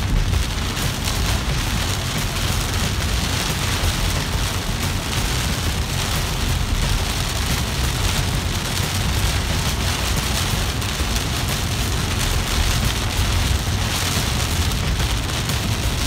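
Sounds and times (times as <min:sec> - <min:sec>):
car rumbling on wet road: 0:00.0 - 0:16.0
heavy rain on a car: 0:00.0 - 0:16.0.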